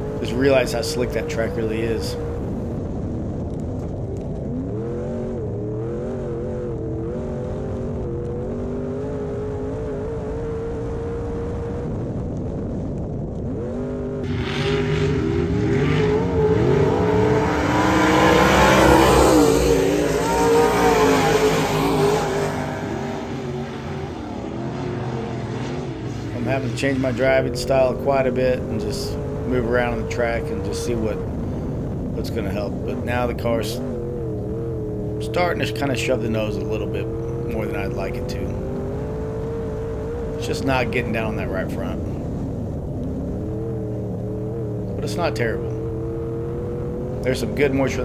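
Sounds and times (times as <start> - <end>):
race car engine revving: 0.0 - 48.0
several racing cars passing: 0.0 - 48.0.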